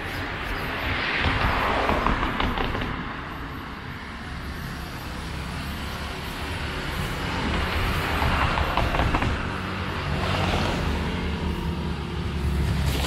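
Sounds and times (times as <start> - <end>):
vehicle passing on street: 0.0 - 13.0
vehicle approaching: 0.6 - 13.0.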